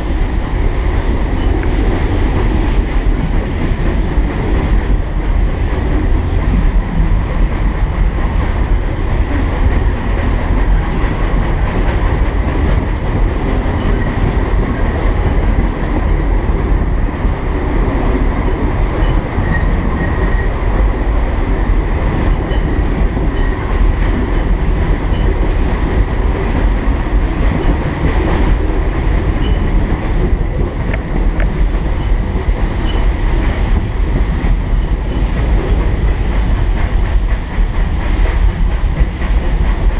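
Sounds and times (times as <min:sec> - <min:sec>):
steam train rumbling on track: 0:00.0 - 0:39.9.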